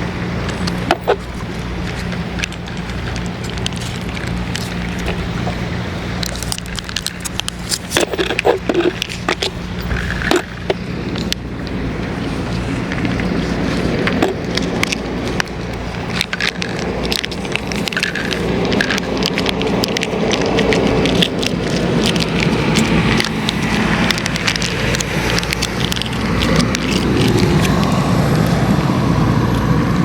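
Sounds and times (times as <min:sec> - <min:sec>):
wind buffeting microphone: 0:00.0 - 0:30.0
crackling clicks: 0:00.1 - 0:30.0.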